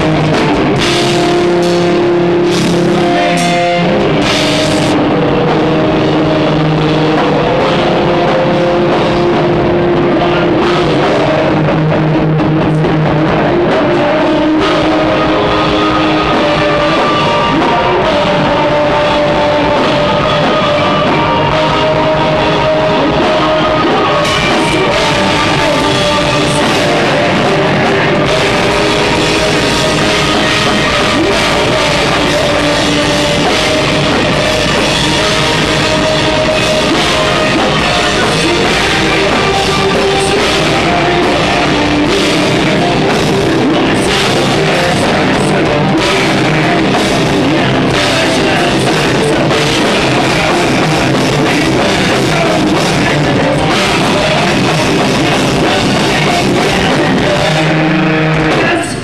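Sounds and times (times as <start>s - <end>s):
distorted electric guitars: 0.0s - 59.0s
drum kit: 0.0s - 59.0s
heavy rock band playing: 0.0s - 59.0s.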